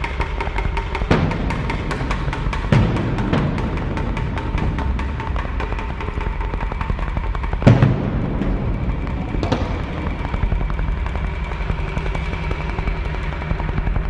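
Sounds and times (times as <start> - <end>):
loud low drum hit: 0.6 - 14.0.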